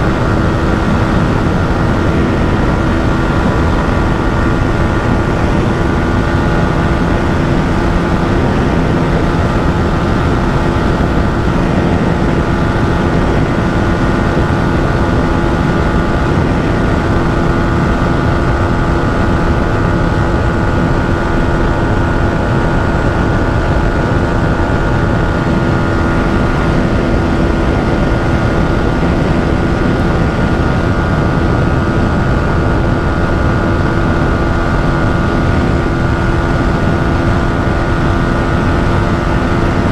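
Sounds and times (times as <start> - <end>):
motorcycle engine at high revs: 0.0 - 39.9
rushing wind noise: 0.0 - 39.9.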